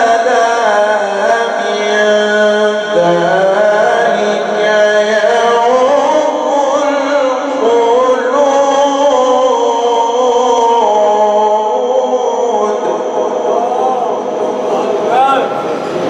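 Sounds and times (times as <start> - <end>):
man reciting melodically: 0.0 - 15.7.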